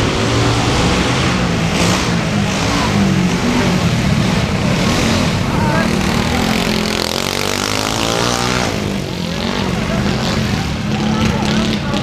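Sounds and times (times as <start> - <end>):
mini-bike engines revving: 0.0 - 12.0.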